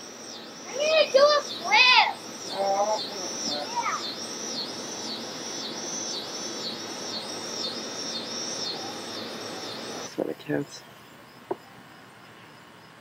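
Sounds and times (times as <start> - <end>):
small animal chirping: 0.0 - 12.6.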